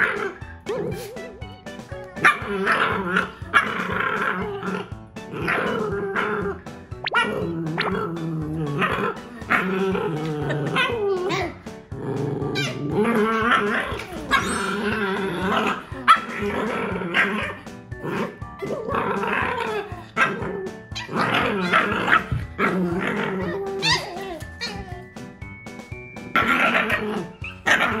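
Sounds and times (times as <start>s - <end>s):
puppy growling and barking: 0.0s - 1.3s, 2.2s - 25.1s, 26.2s - 28.0s
background music: 0.0s - 28.0s.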